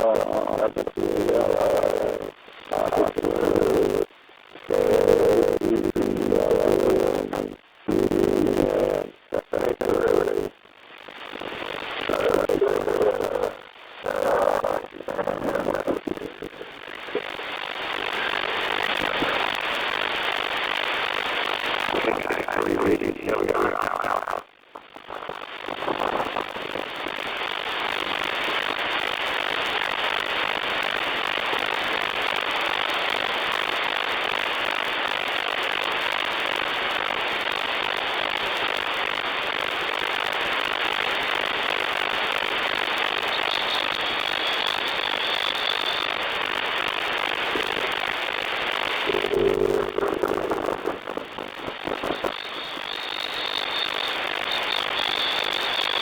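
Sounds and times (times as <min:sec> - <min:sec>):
radio static hiss: 0:00.0 - 0:56.0.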